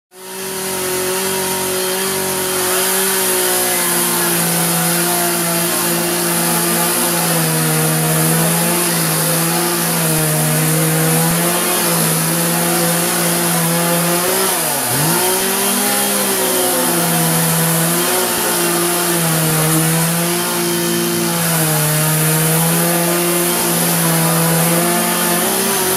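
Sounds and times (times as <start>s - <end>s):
chainsaw cutting log: 0.1s - 25.9s.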